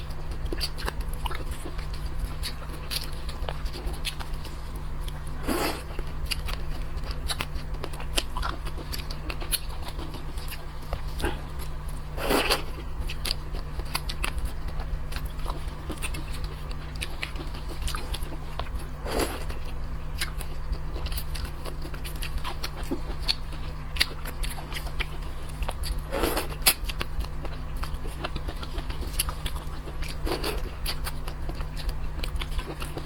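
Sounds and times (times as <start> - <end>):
biting and chewing crunches: 0.0 - 33.0
steady low hum: 0.0 - 33.0.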